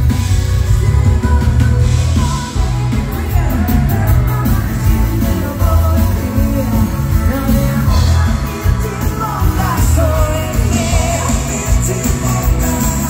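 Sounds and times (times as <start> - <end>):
electric bass: 0.0 - 13.0
woman singing: 0.7 - 13.0.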